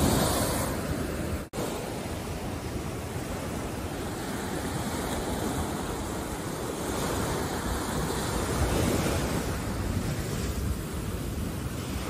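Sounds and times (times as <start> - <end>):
waves washing on beach: 0.0 - 12.0.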